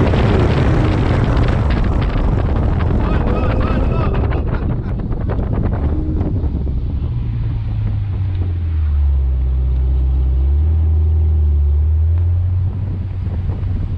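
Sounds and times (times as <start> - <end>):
car engine at low revs: 0.0 - 13.9.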